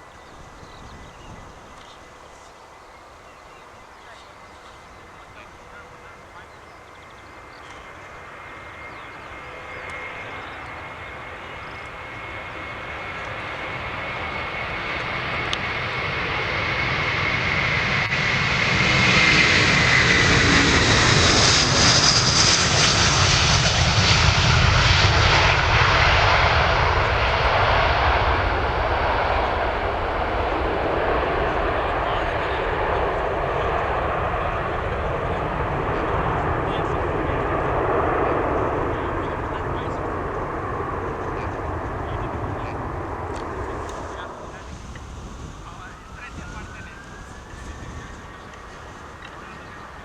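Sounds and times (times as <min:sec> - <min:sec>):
jet engines passing by: 0:00.0 - 0:50.0.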